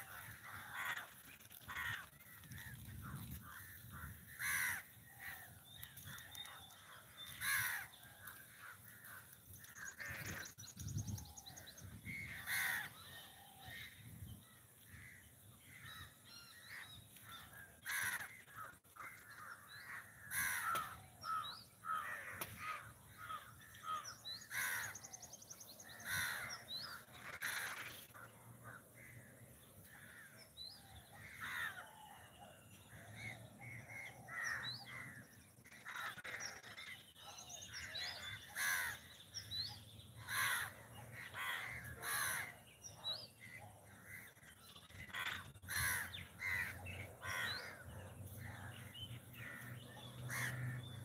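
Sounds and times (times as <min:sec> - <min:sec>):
crows cawing: 0:00.0 - 0:10.5, 0:12.1 - 0:14.1, 0:14.9 - 0:25.2, 0:25.8 - 0:37.0, 0:37.7 - 0:39.2, 0:40.2 - 0:42.8, 0:43.4 - 0:51.0
birds chirping: 0:00.0 - 0:51.0.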